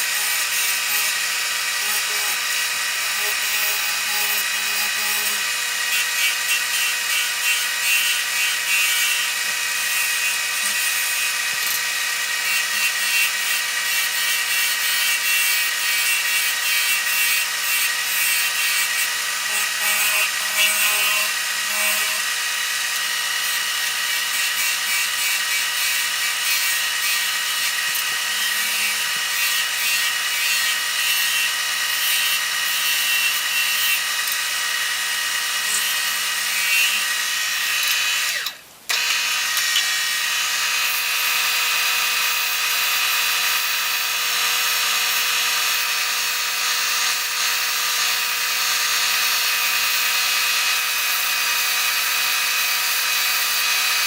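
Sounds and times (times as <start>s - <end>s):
wood lathe whining: 0.0s - 54.0s.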